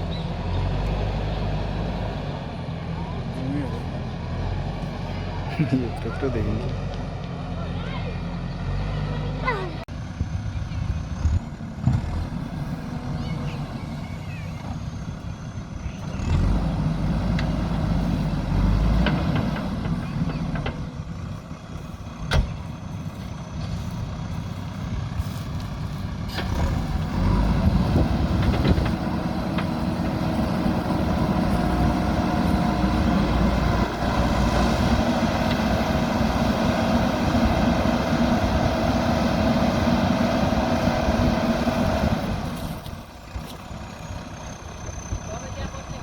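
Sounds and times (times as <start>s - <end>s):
diesel engine working: 0.0s - 46.0s.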